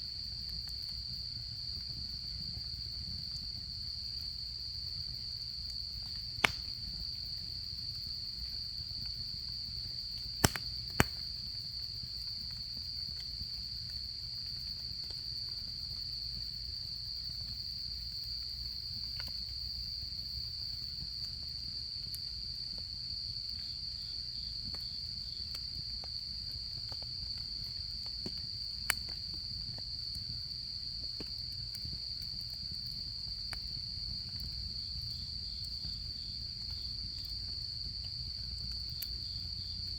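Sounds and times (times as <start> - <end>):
insects trilling: 0.0 - 39.9
campfire crackling and popping: 0.1 - 39.9.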